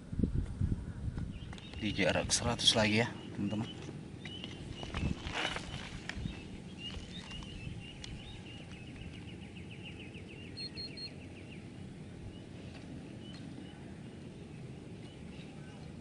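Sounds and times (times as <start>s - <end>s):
wind rumbling on microphone: 0.0s - 16.0s
rustle: 0.4s - 16.0s
bird chirping: 1.3s - 15.9s.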